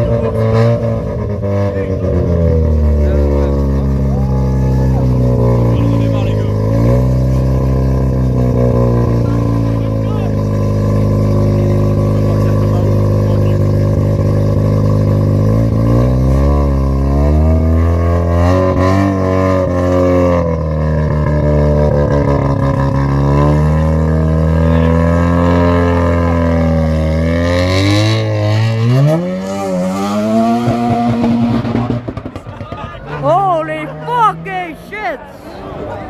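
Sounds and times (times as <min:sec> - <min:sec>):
car engine revving: 0:00.0 - 0:33.2.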